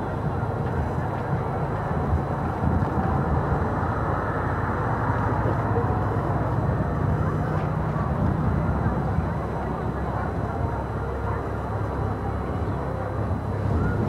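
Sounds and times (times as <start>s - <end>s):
murmur of crowd: 0.0s - 14.0s.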